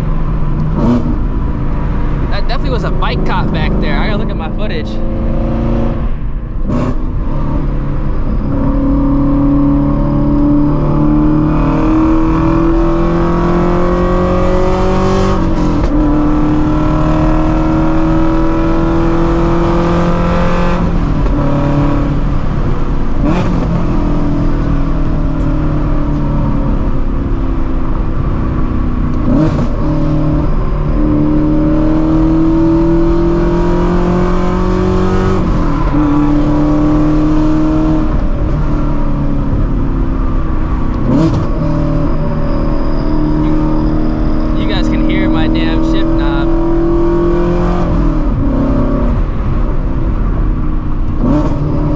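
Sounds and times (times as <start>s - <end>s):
car engine accelerating through gears: 0.0s - 51.9s.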